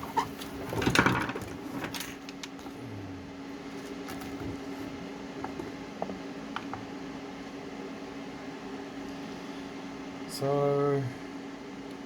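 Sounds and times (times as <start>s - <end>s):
cooling fan humming: 0.0s - 12.0s.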